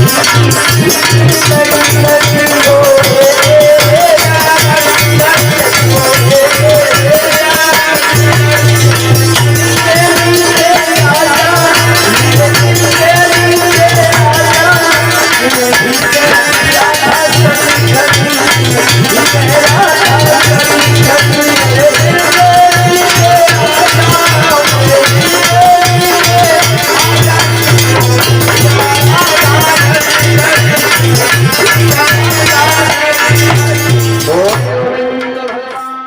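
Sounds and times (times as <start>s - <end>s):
hand drums: 0.0s - 36.0s
jingling rattling percussion: 0.0s - 36.0s.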